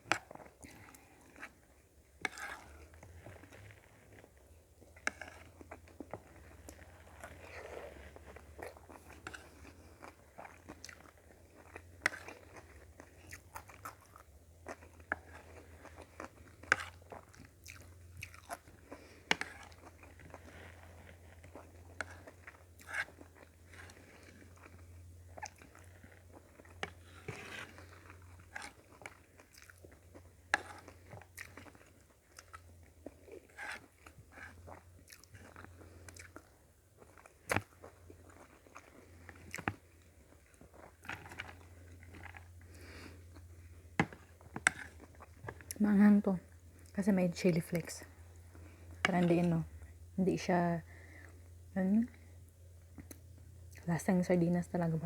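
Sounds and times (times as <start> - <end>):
person chewing food: 0.0 - 50.2, 50.8 - 53.9.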